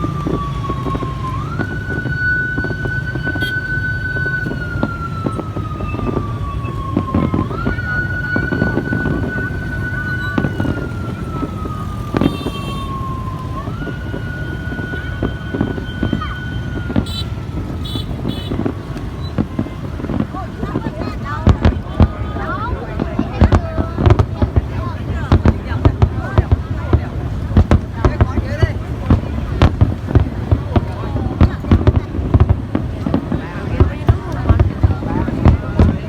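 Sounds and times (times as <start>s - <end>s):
siren wailing: 0.0s - 36.0s.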